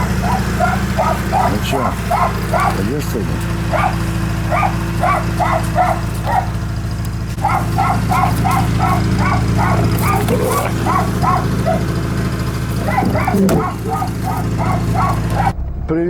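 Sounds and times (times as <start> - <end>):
dog barking in excited yips: 0.0 - 15.5
steady low hum: 0.0 - 16.0.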